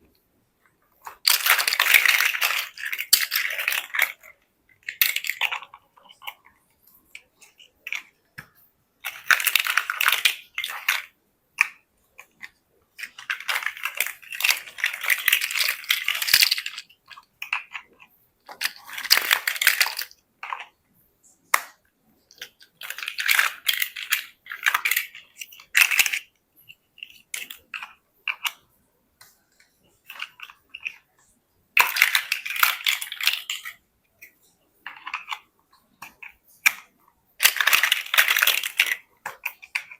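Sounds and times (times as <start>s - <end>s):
plastic bricks clicking and clattering: 0.7s - 39.9s.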